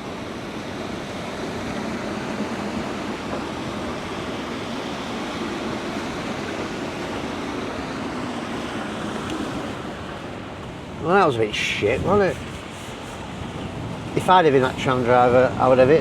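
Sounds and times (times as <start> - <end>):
tram rolling past: 0.0 - 16.0
wind and rain: 0.0 - 16.0.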